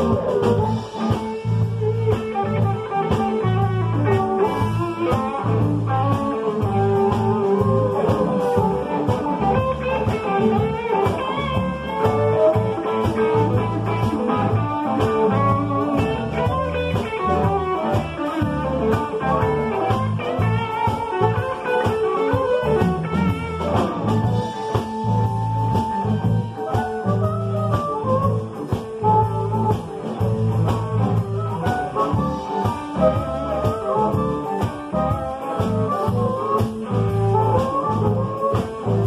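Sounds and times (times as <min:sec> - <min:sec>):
drum kit beat: 0:00.0 - 0:39.0
electric guitars: 0:00.0 - 0:39.0.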